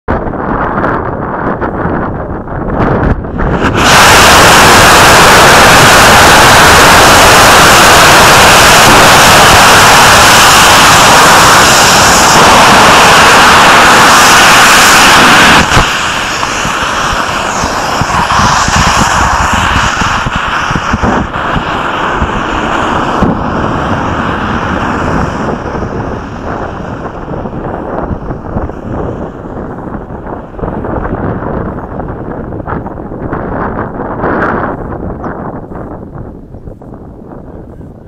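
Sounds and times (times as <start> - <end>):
rocket motor roaring: 2.6 - 34.7
low uneven rushing: 2.9 - 33.4.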